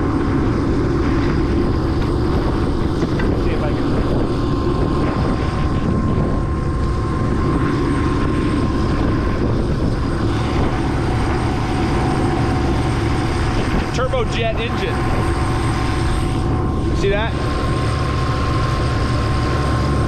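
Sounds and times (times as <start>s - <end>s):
helicopter rotor and engine idling: 0.0s - 20.0s
thin turbine whine: 0.0s - 20.0s.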